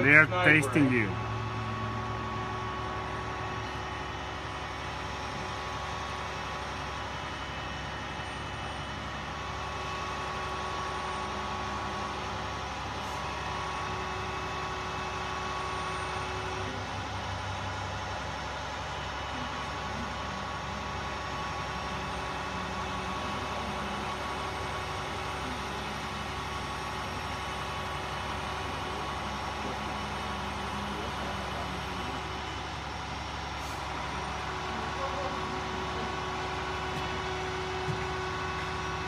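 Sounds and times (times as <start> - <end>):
crane engine droning: 0.0 - 39.0.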